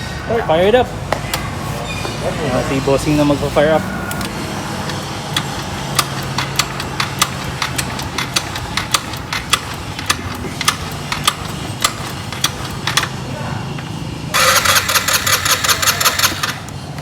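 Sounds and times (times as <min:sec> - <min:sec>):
scooter engine running: 0:01.1 - 0:17.0.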